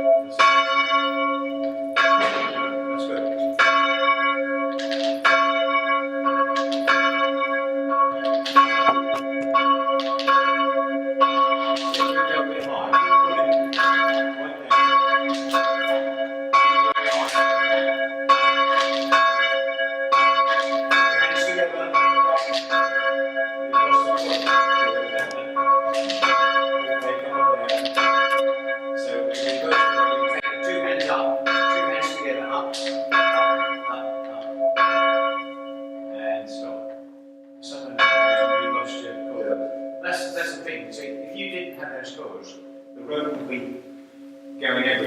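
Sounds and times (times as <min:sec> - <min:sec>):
church bell ringing: 0:00.0 - 0:45.0.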